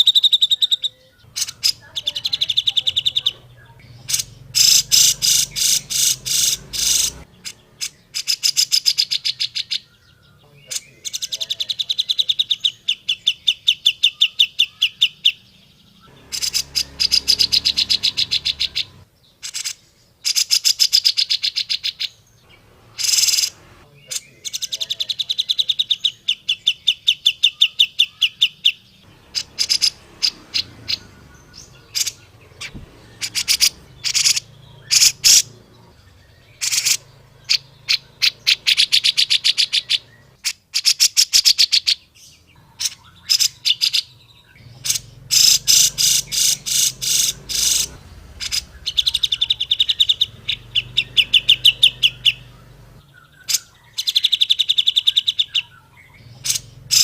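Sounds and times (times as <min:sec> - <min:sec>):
bird singing harsh notes: 0:00.0 - 0:57.0.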